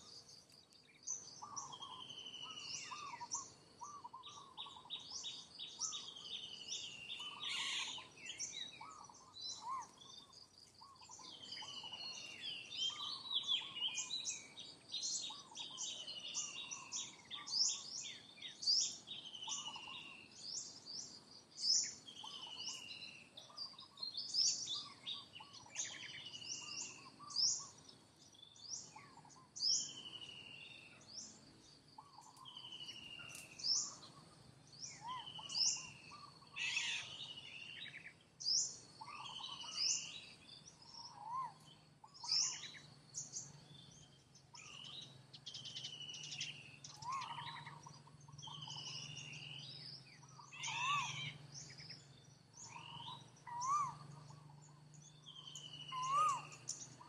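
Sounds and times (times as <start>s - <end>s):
birds singing and calling: 0.0s - 57.0s.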